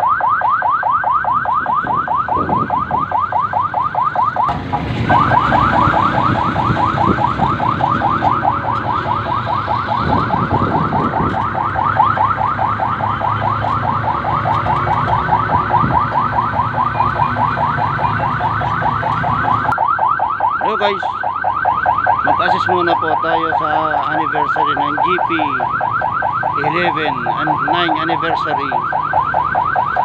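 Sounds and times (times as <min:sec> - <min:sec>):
electronic siren yelping: 0:00.0 - 0:30.0
low rumble of vehicles: 0:00.0 - 0:30.0.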